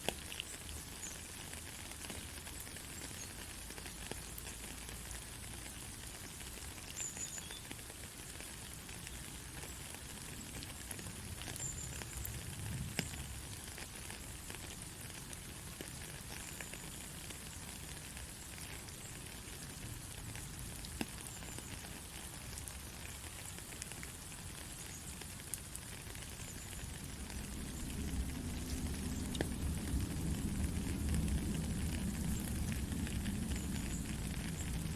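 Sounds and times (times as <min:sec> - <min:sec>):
gentle rain: 0:00.0 - 0:34.9.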